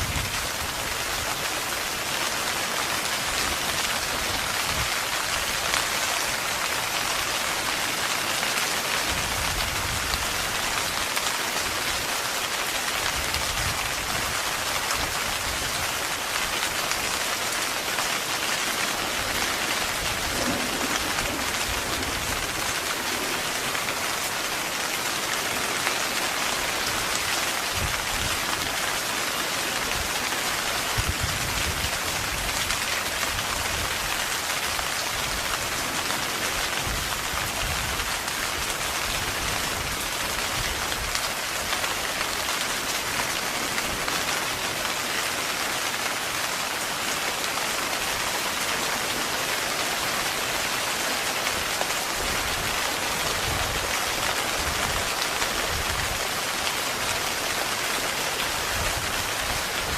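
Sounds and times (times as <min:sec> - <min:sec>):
heavy rain on a tent: 0:00.0 - 0:59.9.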